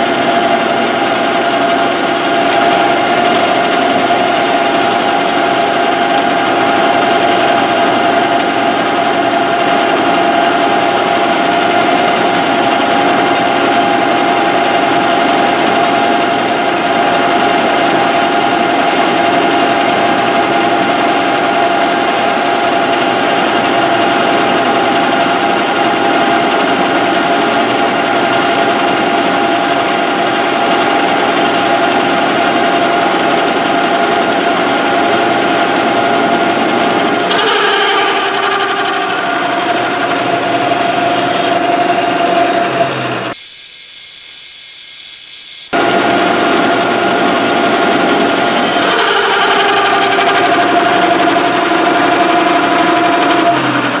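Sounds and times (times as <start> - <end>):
metal lathe whining: 0.0 - 54.0.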